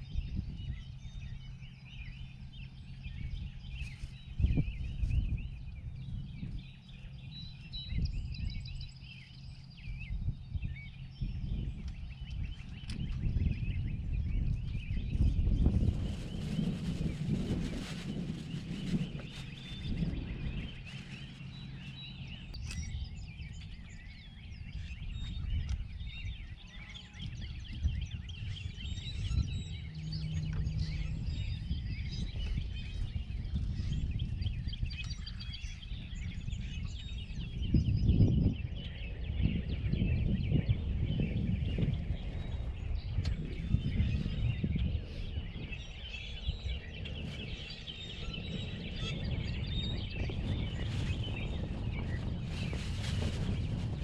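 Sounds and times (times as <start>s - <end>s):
birds chirping and singing: 0.0s - 54.0s
gusty low rumble: 0.0s - 54.0s.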